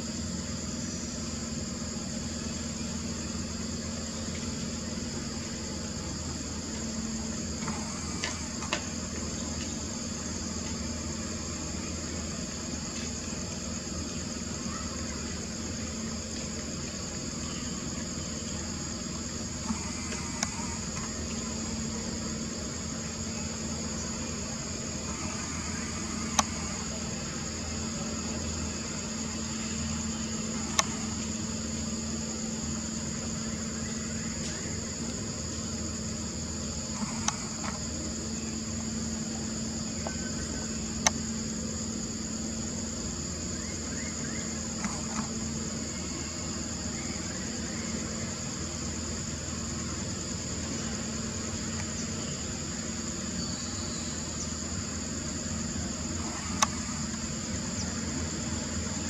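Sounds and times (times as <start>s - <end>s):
forest insects droning: 0.0s - 59.0s.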